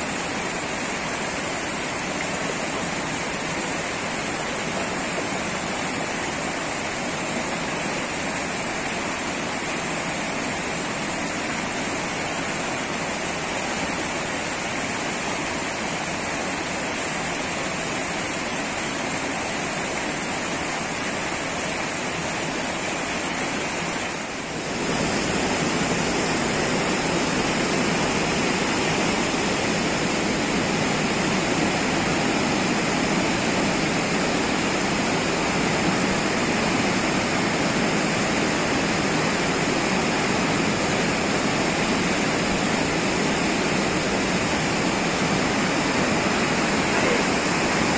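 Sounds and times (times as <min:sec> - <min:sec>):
river rushing over rocks: 0:00.0 - 0:47.9.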